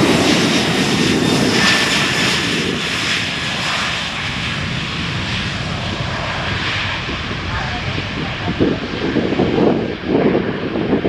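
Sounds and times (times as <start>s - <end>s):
jet airliner engines roaring: 0.0s - 11.0s.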